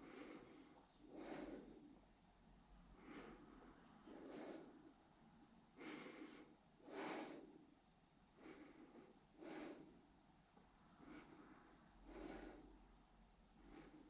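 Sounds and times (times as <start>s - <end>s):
person breathing: 0.0s - 2.1s, 2.8s - 5.0s, 5.7s - 10.1s, 10.9s - 14.0s.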